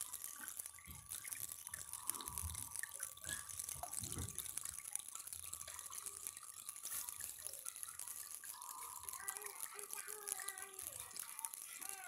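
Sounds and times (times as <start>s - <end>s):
fountain water trickling: 0.0s - 12.0s.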